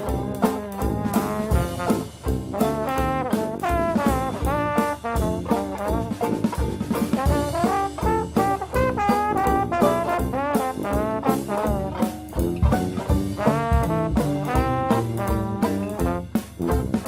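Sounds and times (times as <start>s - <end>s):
drum beat: 0.0s - 17.0s
upbeat jazz music with brass: 0.0s - 17.0s.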